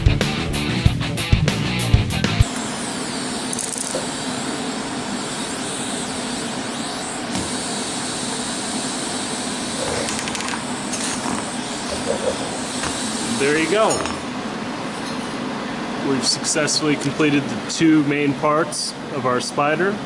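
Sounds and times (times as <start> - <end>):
fan-like machine hiss and hum: 2.2 - 20.0.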